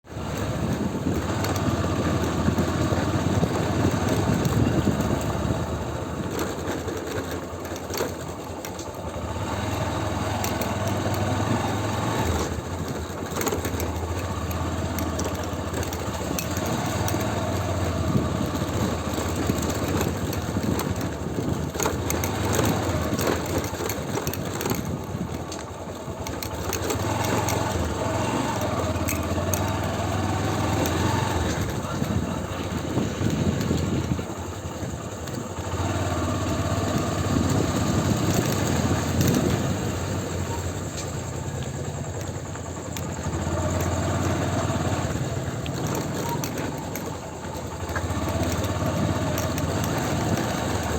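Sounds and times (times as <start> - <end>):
motorcycle engine running: 0.0 - 50.9
road and wind noise: 0.0 - 50.9.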